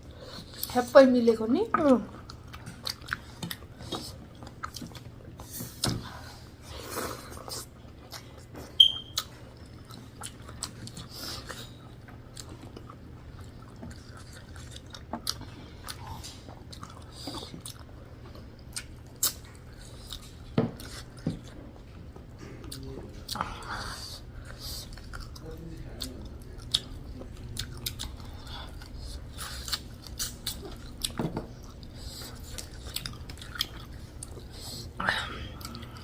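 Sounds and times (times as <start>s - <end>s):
steady low hum: 0.0s - 36.0s
person chewing food: 2.1s - 36.0s.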